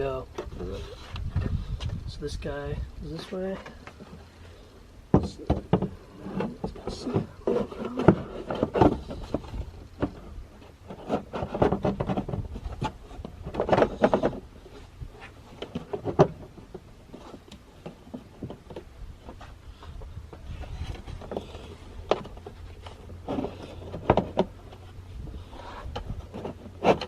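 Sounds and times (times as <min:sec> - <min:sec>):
plastic airbox knocking and scraping: 0:05.1 - 0:27.0.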